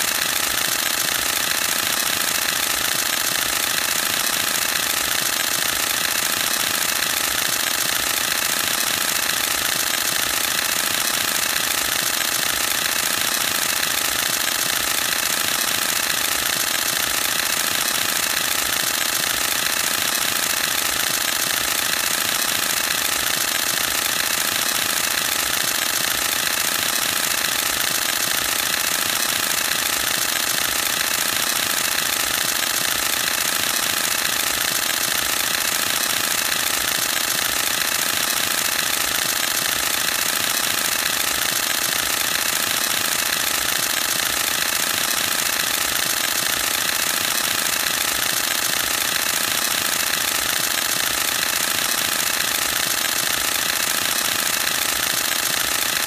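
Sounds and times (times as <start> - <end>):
camera shutter rapid burst: 0.0 - 56.0.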